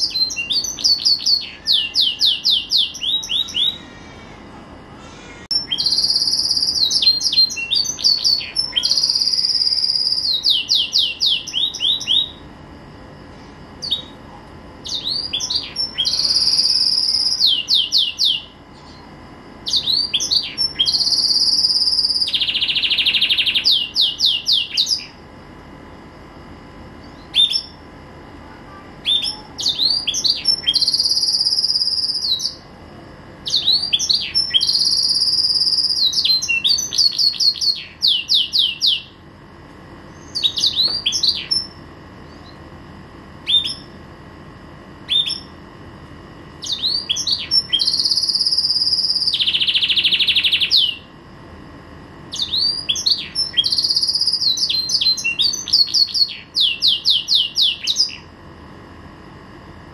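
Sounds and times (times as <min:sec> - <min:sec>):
canary singing trills: 0:00.0 - 0:12.6, 0:13.3 - 0:25.3, 0:27.0 - 0:28.0, 0:28.7 - 0:32.7, 0:33.4 - 0:39.3, 0:40.0 - 0:42.7, 0:43.4 - 0:44.0, 0:45.0 - 0:45.8, 0:46.5 - 0:51.2, 0:52.2 - 0:58.4.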